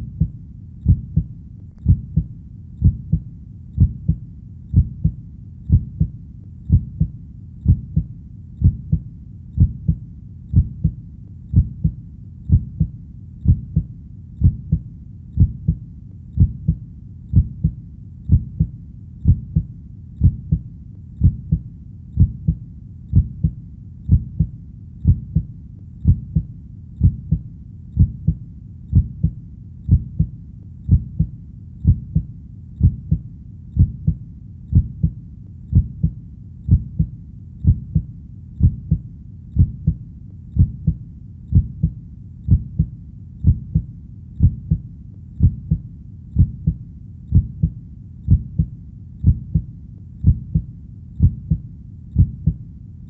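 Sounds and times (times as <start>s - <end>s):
heartbeat thuds: 0.0s - 52.6s
faint low rumble: 0.0s - 53.0s.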